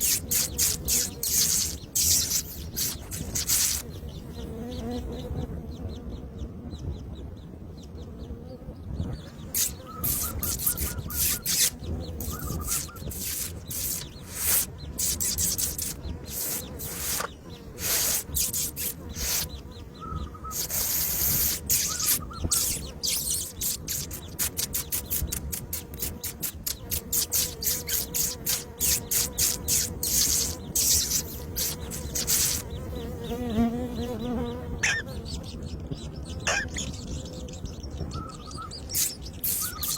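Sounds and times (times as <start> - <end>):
birds feeding clicks and rustles: 0.0 - 39.9.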